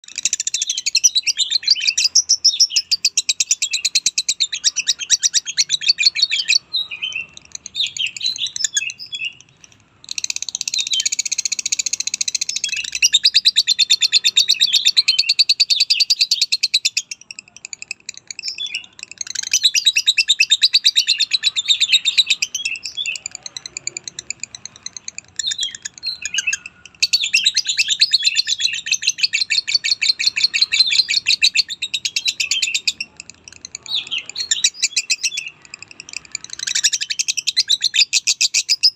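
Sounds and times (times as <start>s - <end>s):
lovebird chattering: 0.0s - 38.9s.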